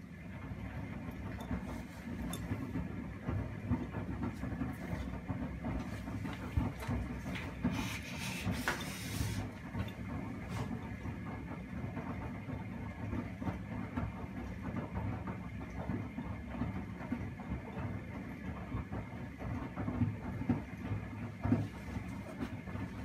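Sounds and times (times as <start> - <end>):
washing machine drum rumbling: 0.0 - 23.0.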